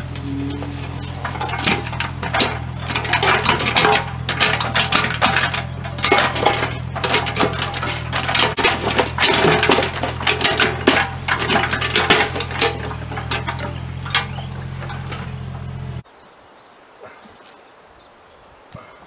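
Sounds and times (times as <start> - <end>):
diesel engine running: 0.0 - 16.0
metal bucket scraping stony soil: 0.0 - 16.0
stones clinking against metal: 0.6 - 16.0.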